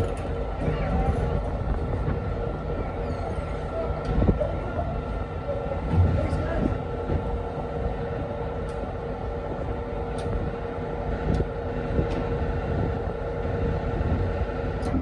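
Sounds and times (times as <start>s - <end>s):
ship machinery droning: 0.0s - 15.0s.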